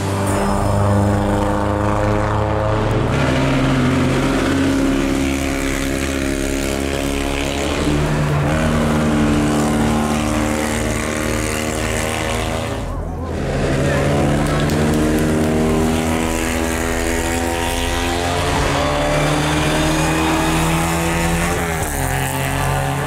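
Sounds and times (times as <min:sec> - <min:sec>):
race car engines at high revs: 0:00.0 - 0:23.0.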